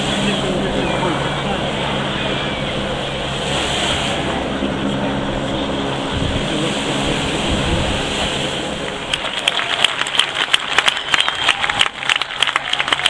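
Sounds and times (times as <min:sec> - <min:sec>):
engine drone: 0:00.0 - 0:13.0
outdoor background noise: 0:00.0 - 0:13.0.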